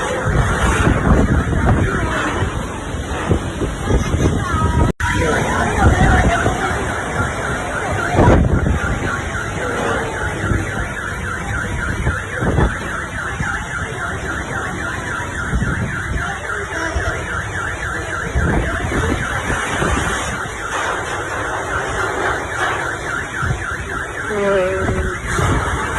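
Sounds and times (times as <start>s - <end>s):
car alarm chirping: 0.0s - 2.4s, 5.0s - 25.9s
wind buffeting microphone: 0.0s - 25.9s.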